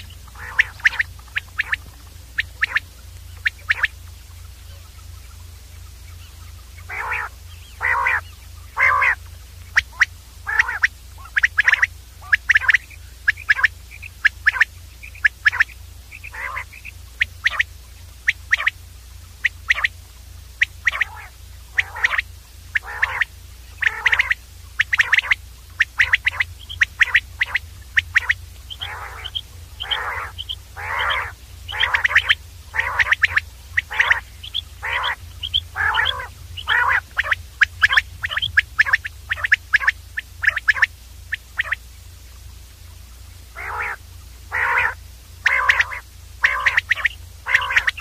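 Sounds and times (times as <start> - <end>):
quail calling: 0.0 - 20.0, 20.6 - 42.5, 43.4 - 48.0
faint low hum: 0.0 - 48.0.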